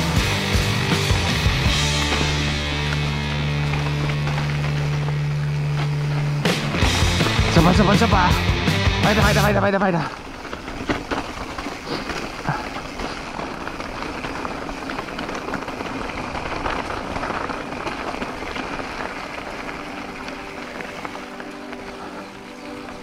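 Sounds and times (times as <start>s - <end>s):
bike rattles and knocks: 0.0s - 8.3s, 9.0s - 23.0s
bike tyres rushing on dirt: 0.0s - 23.0s.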